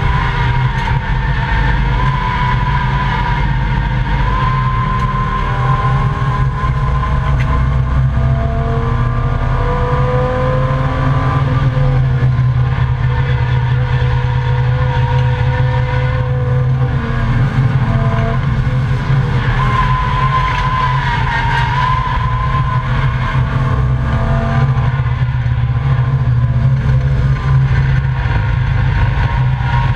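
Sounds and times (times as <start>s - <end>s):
race car engine running hard: 0.0s - 29.9s.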